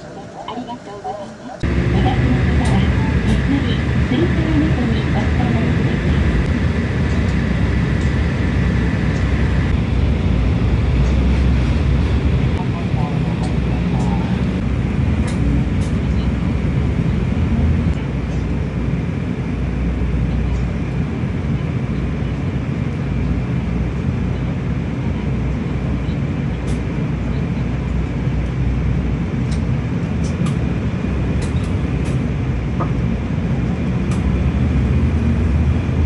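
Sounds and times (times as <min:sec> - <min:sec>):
bus engine and road rumble: 0:00.0 - 0:36.0
faint whine: 0:00.0 - 0:36.0.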